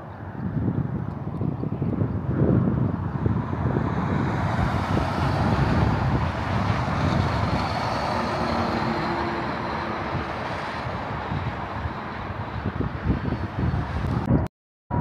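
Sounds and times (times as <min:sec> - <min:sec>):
road traffic passing: 0:00.0 - 0:14.5.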